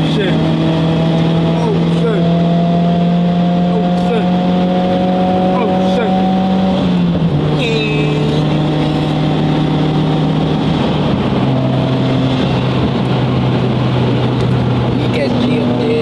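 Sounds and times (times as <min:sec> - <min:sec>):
car engine droning: 0:00.0 - 0:16.0
road and wind noise: 0:00.0 - 0:16.0.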